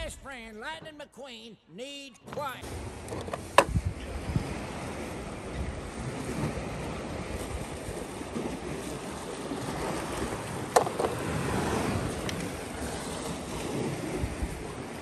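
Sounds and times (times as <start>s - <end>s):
sea waves washing against rocks: 2.6s - 15.0s
wind on microphone: 2.6s - 15.0s.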